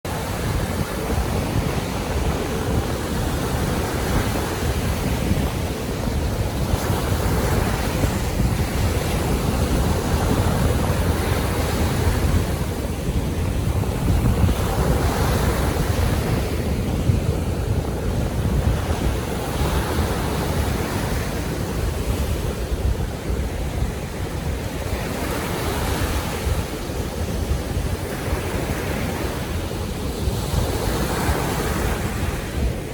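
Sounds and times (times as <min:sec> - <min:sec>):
waves washing onto shore: 0:00.1 - 0:32.9
wind buffeting microphone: 0:00.1 - 0:32.9.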